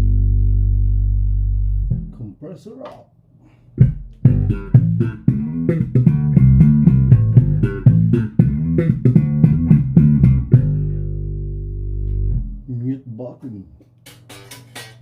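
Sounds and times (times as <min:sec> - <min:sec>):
electric bass guitar riff: 0:00.0 - 0:02.2, 0:03.8 - 0:12.8, 0:14.1 - 0:15.0.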